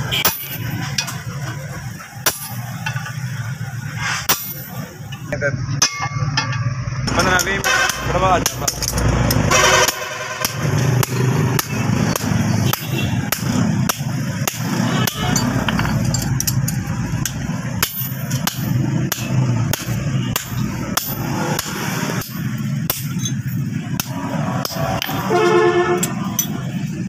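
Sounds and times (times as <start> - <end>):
hammer striking steel on anvil: 0.1 - 1.4, 2.2 - 3.3, 4.2 - 5.2, 5.8 - 27.0.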